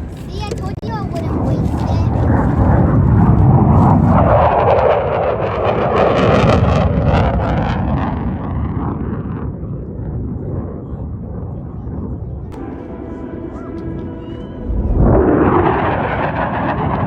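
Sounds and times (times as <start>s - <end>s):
jet engine passing: 1.3s - 10.4s, 12.1s - 17.0s.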